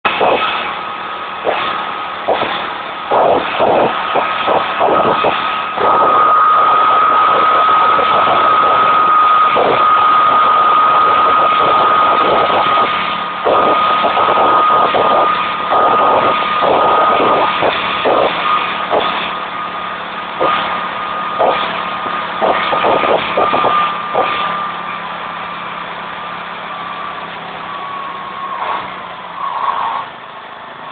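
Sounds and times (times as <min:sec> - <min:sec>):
engine throttle blips: 0:00.0 - 0:30.9
lawnmower engine whining: 0:00.0 - 0:30.9.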